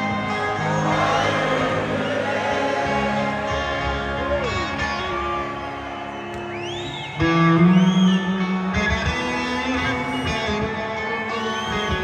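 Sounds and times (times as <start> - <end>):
live rock band: 0.0 - 12.0.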